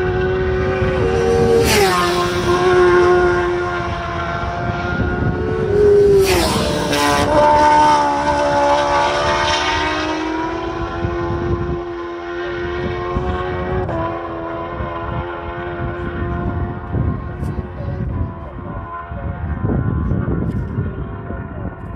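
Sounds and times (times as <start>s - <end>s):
racing motorcycle passing by: 0.0s - 21.6s.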